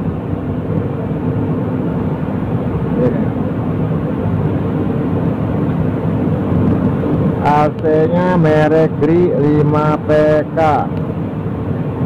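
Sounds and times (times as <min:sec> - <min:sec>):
machinery droning hum: 0:00.0 - 0:12.0.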